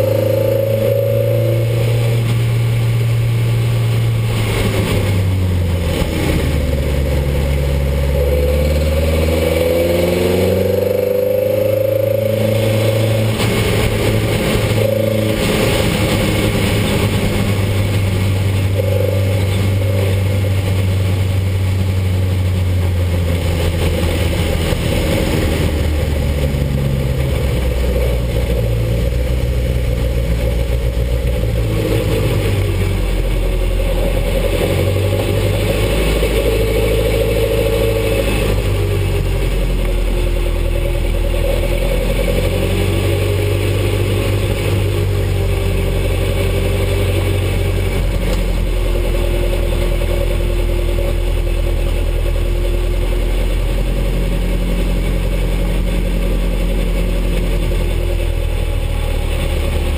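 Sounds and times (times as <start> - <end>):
race car engine at low revs: 0.0 - 59.9.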